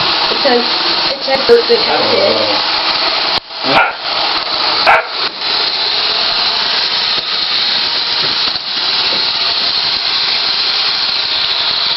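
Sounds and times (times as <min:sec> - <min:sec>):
robot vacuum whirring: 0:00.0 - 0:11.9.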